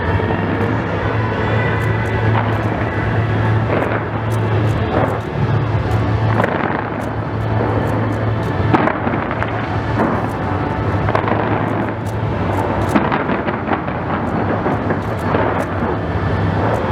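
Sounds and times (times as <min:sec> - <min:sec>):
faint fireworks crackles: 0:00.0 - 0:16.9
steady low rumble: 0:00.0 - 0:16.9.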